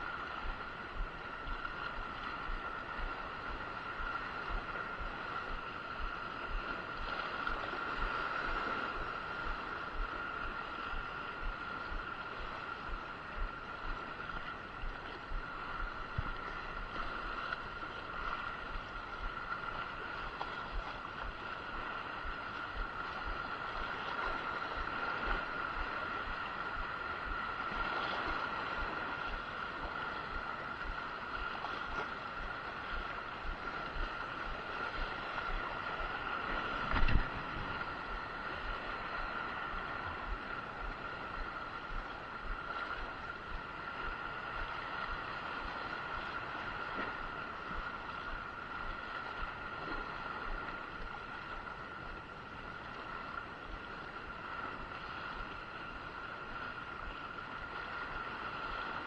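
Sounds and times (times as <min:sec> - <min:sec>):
high-pitched hum: 0:00.0 - 0:49.5
sea noise: 0:00.0 - 0:59.0
wind on microphone: 0:00.0 - 0:59.0.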